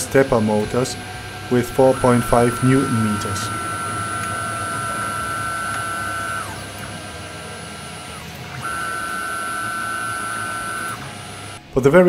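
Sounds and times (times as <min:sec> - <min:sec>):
stepper motor whining: 0:00.0 - 0:12.0.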